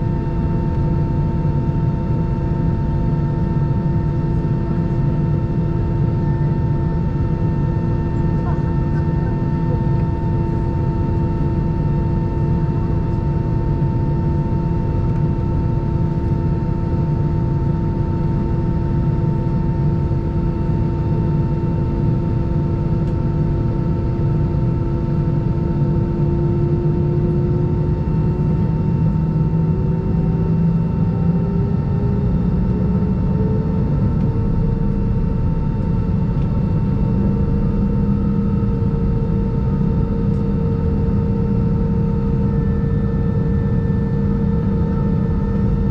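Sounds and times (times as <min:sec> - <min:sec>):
aircraft cabin rumble: 0:00.2 - 0:18.5, 0:19.2 - 0:45.9.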